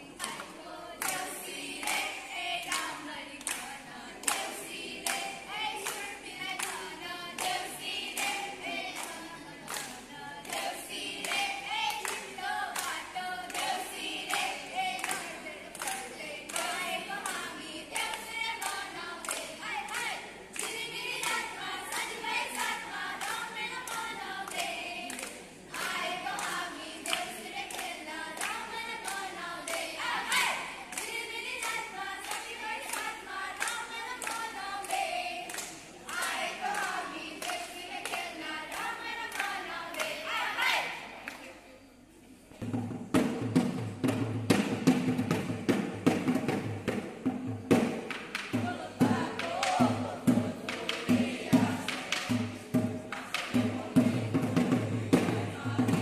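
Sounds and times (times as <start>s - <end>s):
girls singing together: 0.0s - 41.2s, 48.2s - 56.0s
hands clapping: 0.1s - 40.2s, 47.7s - 53.6s.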